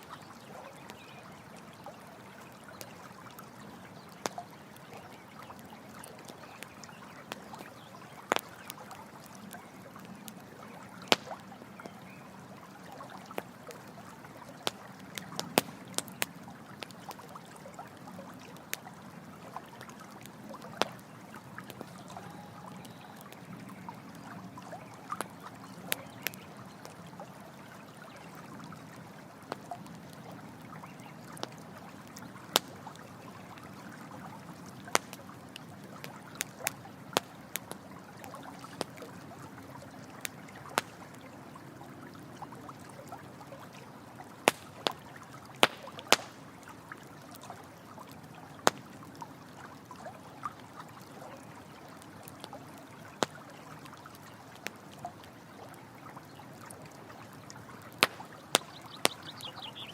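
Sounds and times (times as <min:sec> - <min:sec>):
campfire crackling: 0:00.0 - 0:49.9, 0:50.5 - 0:55.4, 0:56.3 - 0:59.9
trickle of running water: 0:00.0 - 0:59.9.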